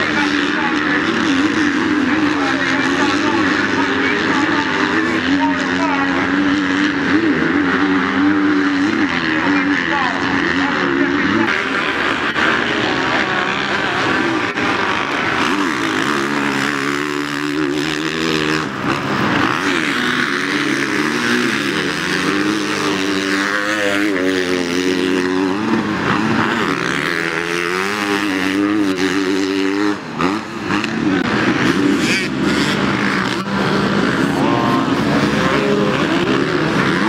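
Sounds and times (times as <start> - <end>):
racing engines revving: 0.0 - 37.0.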